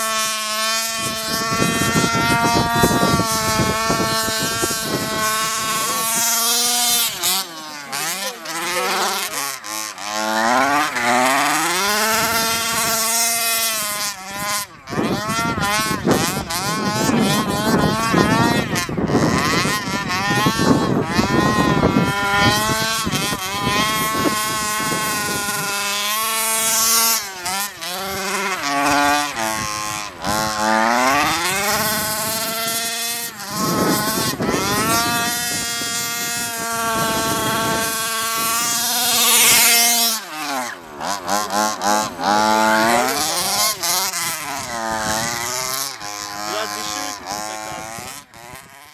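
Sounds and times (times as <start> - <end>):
small two-stroke engine revving: 0.0 - 48.9.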